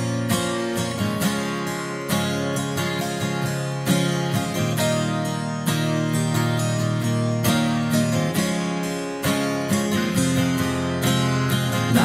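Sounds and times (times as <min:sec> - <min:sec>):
guitar chords strummed: 0:00.0 - 0:12.0.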